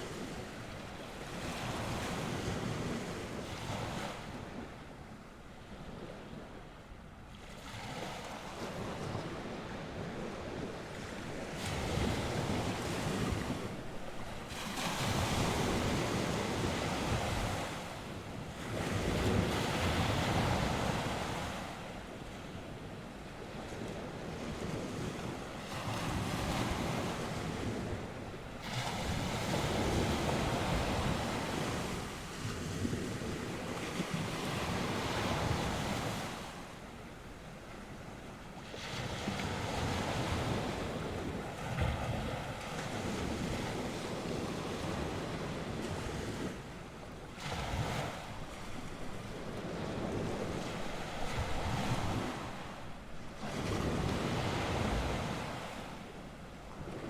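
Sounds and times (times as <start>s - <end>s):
waves breaking on shore: 0.0s - 57.0s
wind on microphone: 7.6s - 37.1s, 37.9s - 57.0s.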